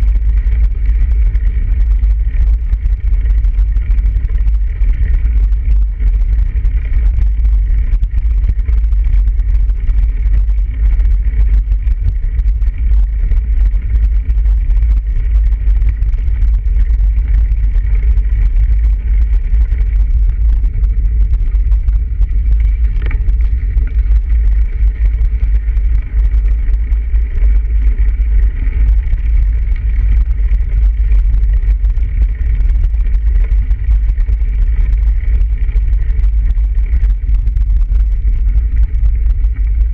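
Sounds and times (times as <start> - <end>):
faint high hum: 0.0 - 39.9
wind and ride vibration rumble: 0.0 - 39.9.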